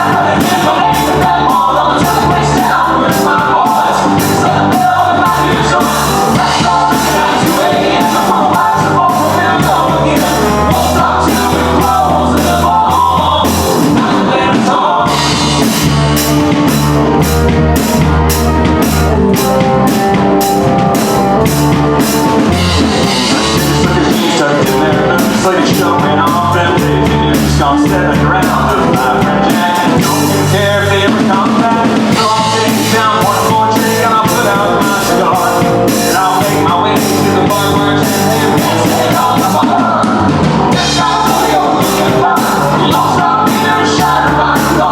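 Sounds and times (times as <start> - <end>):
person singing lead: 0.0 - 16.6, 22.3 - 44.9
country band playing: 0.0 - 44.9
drum kit beat: 0.0 - 44.9.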